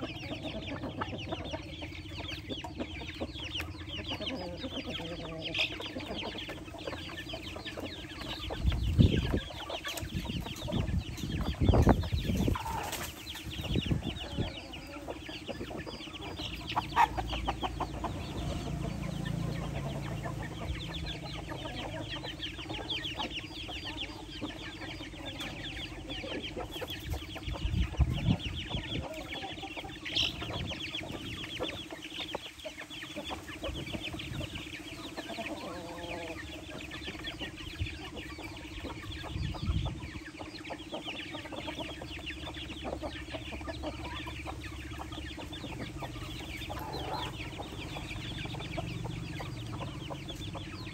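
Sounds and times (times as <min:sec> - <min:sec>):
chickens clucking: 0:00.0 - 0:50.9
chicks peeping: 0:00.0 - 0:50.9.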